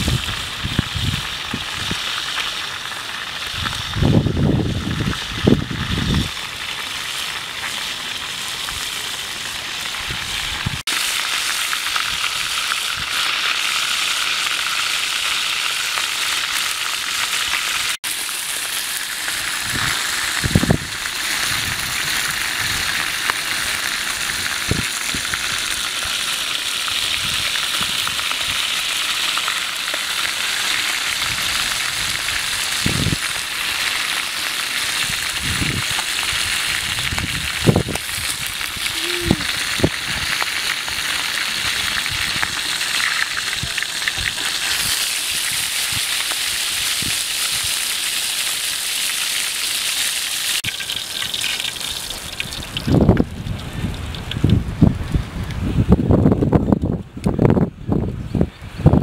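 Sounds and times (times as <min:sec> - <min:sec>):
fish sizzling in hot oil: 0:00.0 - 0:54.6.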